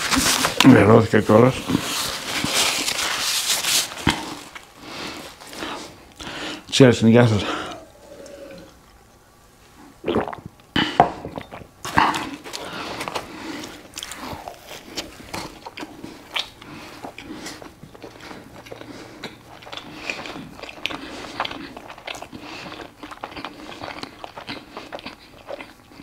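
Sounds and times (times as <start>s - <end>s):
man chewing food: 1.6s - 6.7s, 7.3s - 26.0s.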